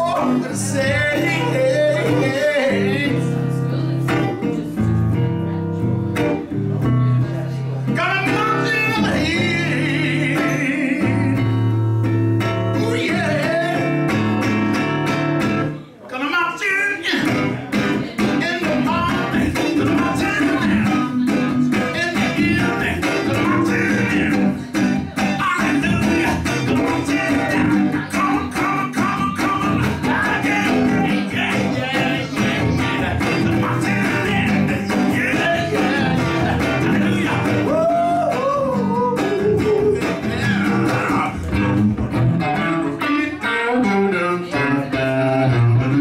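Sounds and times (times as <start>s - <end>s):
man singing: 0.0s - 5.6s, 7.7s - 14.8s, 16.1s - 41.8s, 42.4s - 46.0s
electric guitar: 0.0s - 15.9s, 16.8s - 46.0s.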